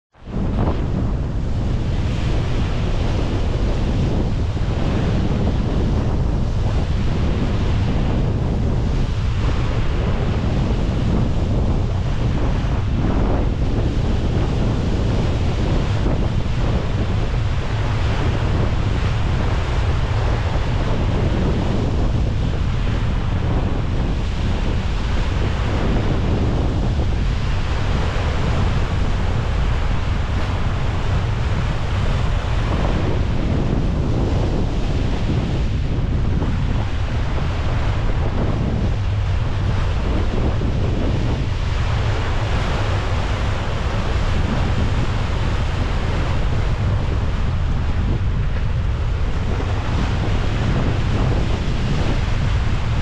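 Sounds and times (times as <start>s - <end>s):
sea water washing around ship bow: 0.1s - 53.0s
wind buffeting microphone: 0.1s - 53.0s.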